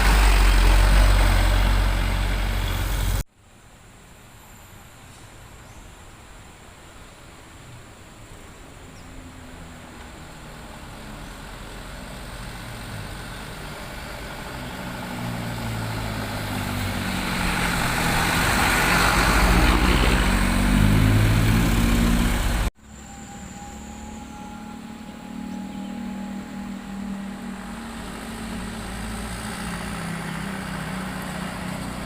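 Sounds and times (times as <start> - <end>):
truck engine approaching: 0.0 - 3.2, 9.1 - 32.0
road noise: 0.0 - 32.0.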